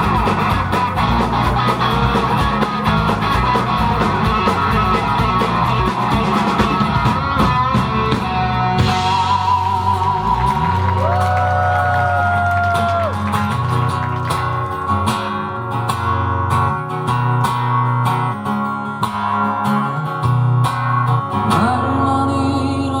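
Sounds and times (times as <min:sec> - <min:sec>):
guitar strumming: 0:00.0 - 0:23.0
live band music: 0:00.0 - 0:23.0.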